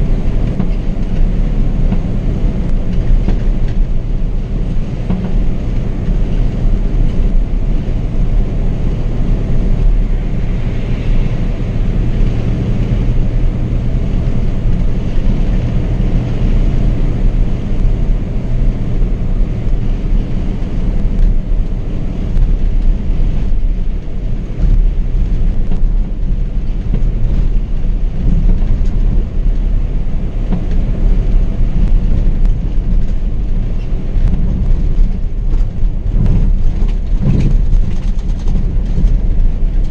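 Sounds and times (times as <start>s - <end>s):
coach engine rumble: 0.0s - 39.9s
road and tyre noise: 0.0s - 39.9s.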